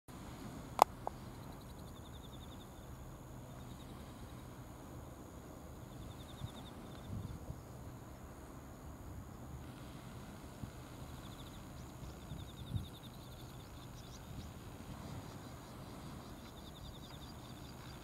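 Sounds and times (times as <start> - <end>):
faint steady high whine: 0.1 - 18.0
insect trills: 0.2 - 18.0.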